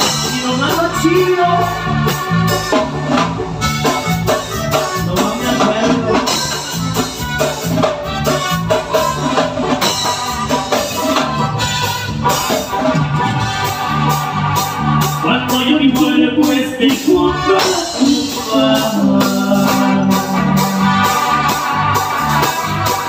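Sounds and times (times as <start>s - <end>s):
bouncing bass line: 0.0s - 23.0s
drums: 0.0s - 23.0s
keyboard melody: 0.0s - 23.0s.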